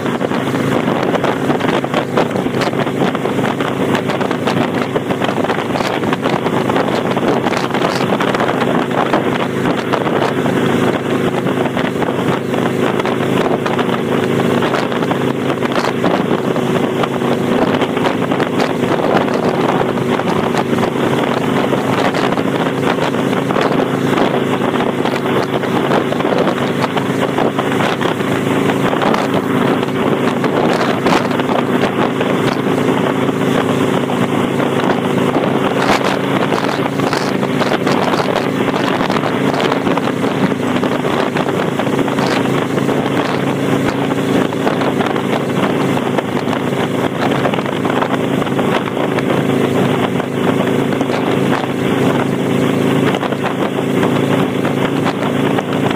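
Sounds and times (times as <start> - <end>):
motorcycle engine running: 0.0 - 55.9
wind noise on microphone: 0.0 - 55.9.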